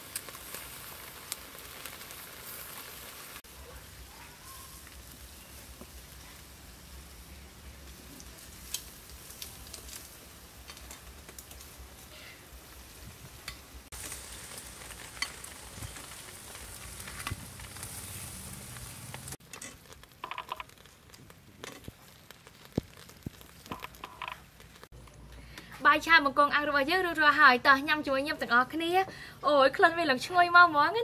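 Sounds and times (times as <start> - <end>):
prawns sizzling on a grill: 0.0 - 31.0.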